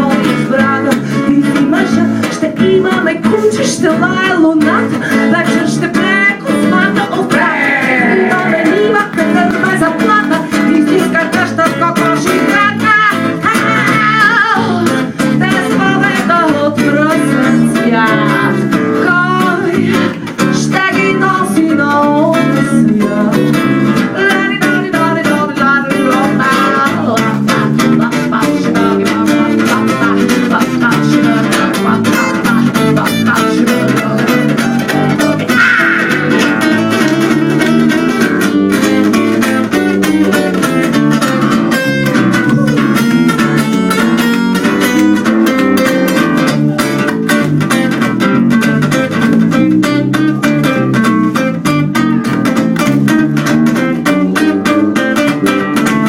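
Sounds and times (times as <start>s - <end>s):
acoustic guitar strumming: 0.0s - 56.0s
bass line: 0.0s - 56.0s.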